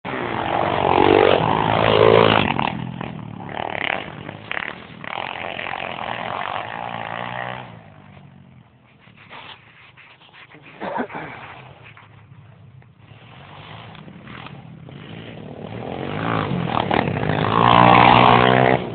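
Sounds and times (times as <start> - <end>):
pit bike engine revving: 0.1 - 8.7, 11.1 - 18.9.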